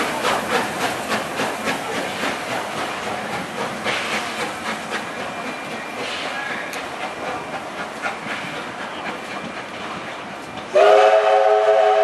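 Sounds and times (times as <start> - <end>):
steam hissing: 0.0 - 12.0
steam locomotive exhaust chuffs: 0.0 - 12.0.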